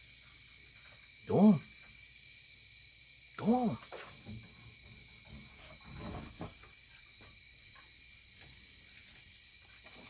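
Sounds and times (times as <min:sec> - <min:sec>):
night insects chirping: 0:00.0 - 0:10.0.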